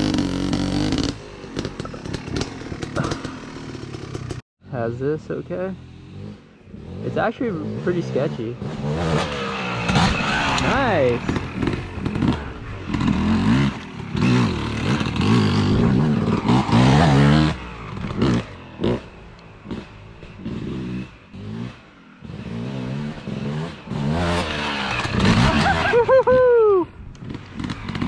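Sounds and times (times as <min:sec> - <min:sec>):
dirt bike engine revving: 0:00.0 - 0:26.3, 0:27.2 - 0:28.0.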